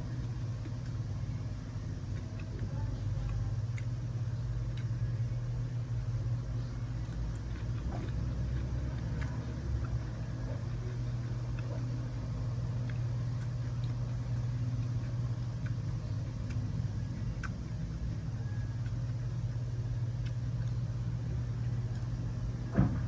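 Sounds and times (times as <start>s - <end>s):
low engine-like hum: 0.0s - 23.0s.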